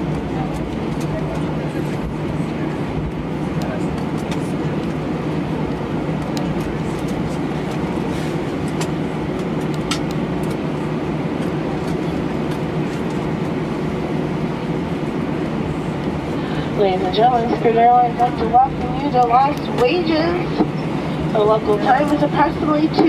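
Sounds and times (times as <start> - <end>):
aircraft cabin rumble: 0.0 - 23.0
low steady hum: 0.0 - 23.0.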